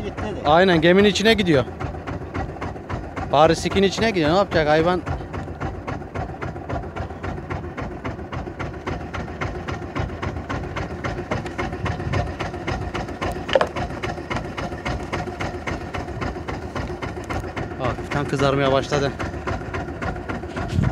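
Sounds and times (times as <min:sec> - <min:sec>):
boat engine idling: 0:00.0 - 0:20.9.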